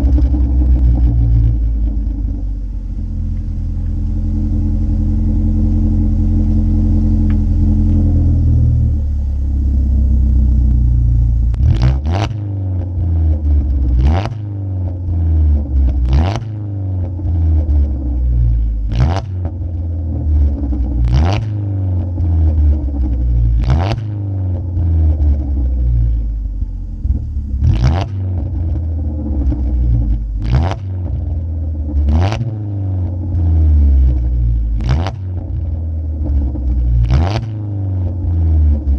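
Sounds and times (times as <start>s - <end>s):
car exhaust running: 0.0s - 38.9s
exhaust pops and crackles: 0.0s - 38.9s.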